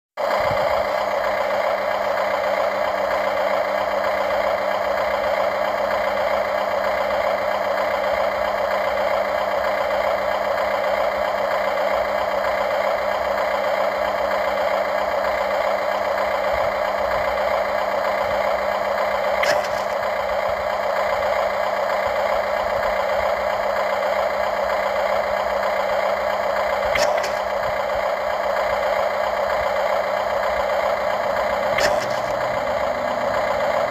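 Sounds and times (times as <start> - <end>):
model excavator motor running: 0.2 - 33.9.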